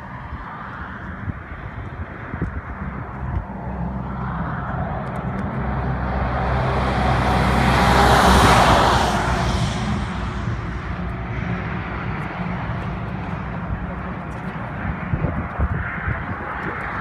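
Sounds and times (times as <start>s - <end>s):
road vehicle passing: 0.0s - 17.0s
steady low hum: 1.3s - 17.0s.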